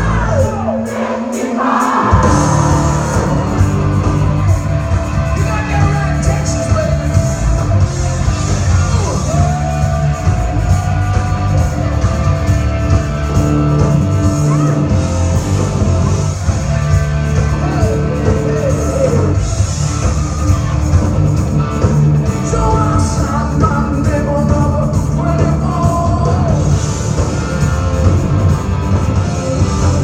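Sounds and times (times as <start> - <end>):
rock music with singing and guitar: 0.0 - 30.0.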